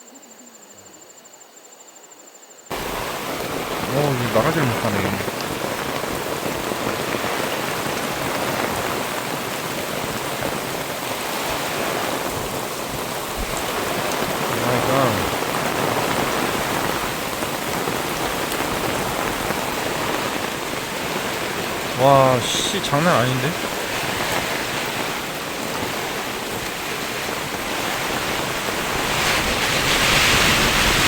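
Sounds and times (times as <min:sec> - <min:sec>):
heavy rain drumming on a tent: 0:02.7 - 0:31.0.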